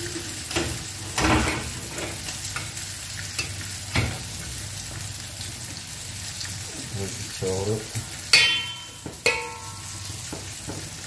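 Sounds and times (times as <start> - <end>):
frying sizzle: 0.0 - 11.0.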